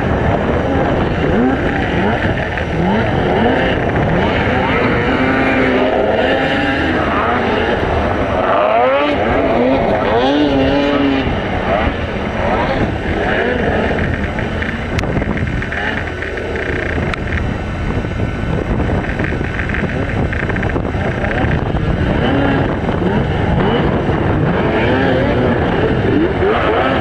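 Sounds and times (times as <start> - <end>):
snowmobile engines revving: 0.0 - 27.0.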